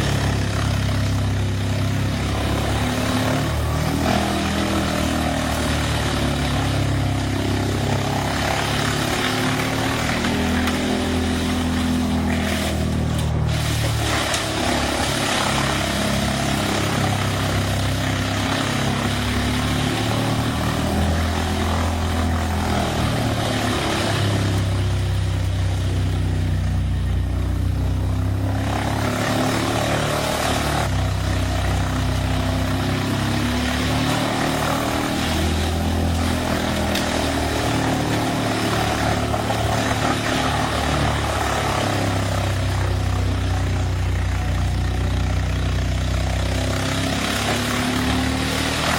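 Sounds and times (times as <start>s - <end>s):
rough grinding noise: 0.0s - 48.9s
wood chipper engine running: 0.0s - 48.9s.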